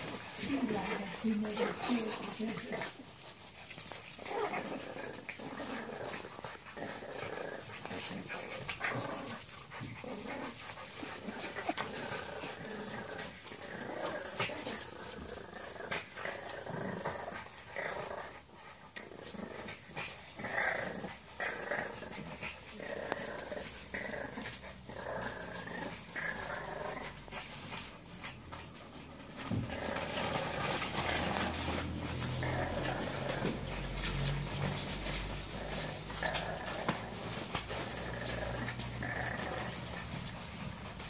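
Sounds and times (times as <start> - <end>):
dogs play-growling: 0.0 - 41.0.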